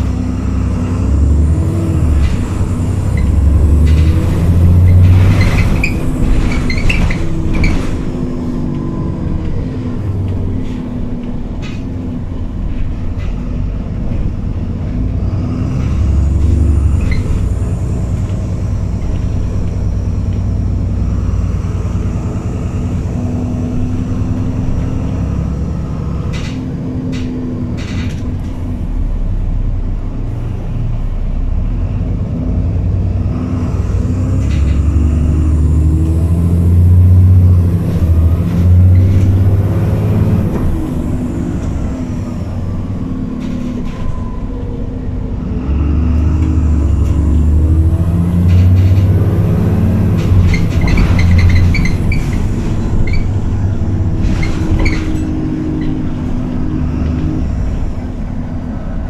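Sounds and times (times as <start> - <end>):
bus diesel engine: 0.0 - 59.0
rising engine whine: 0.0 - 59.0.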